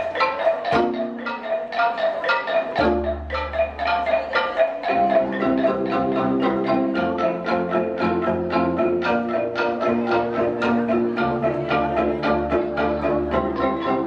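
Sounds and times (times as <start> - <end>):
marimba-like mallet notes: 0.0 - 14.0.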